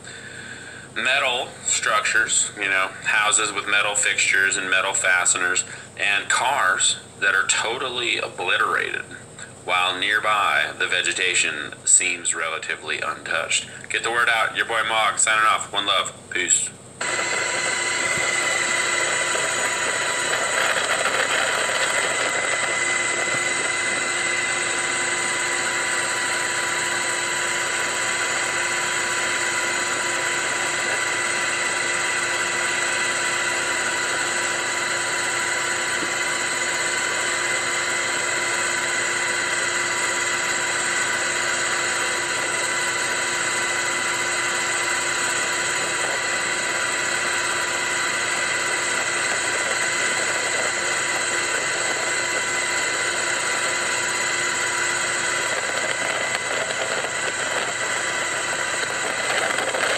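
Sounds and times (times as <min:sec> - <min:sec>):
aircraft engine whining: 0:00.0 - 0:59.9.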